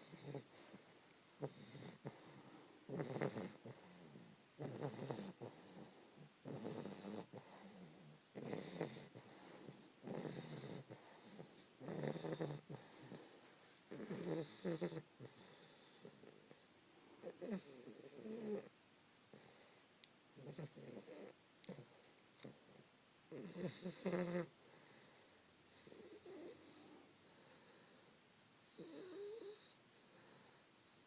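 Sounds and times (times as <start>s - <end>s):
puppy breathing: 0.0s - 18.7s, 19.3s - 31.0s
puppy snoring: 0.0s - 31.0s.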